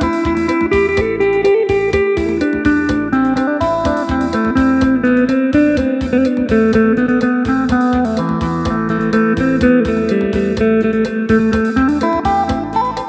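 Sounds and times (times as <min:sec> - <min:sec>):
plucked lute melody: 0:00.0 - 0:13.0
steady beat: 0:00.0 - 0:13.0.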